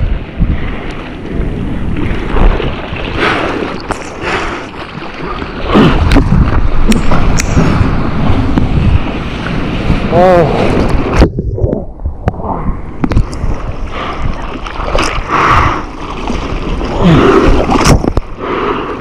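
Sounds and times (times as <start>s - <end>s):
sea water churning and splashing: 0.0s - 19.0s
wind buffeting the microphone: 0.0s - 19.0s.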